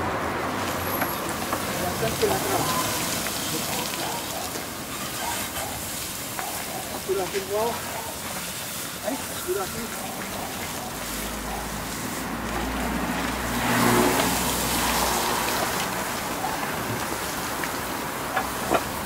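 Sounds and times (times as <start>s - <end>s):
water hissing on hot iron: 0.0s - 19.0s.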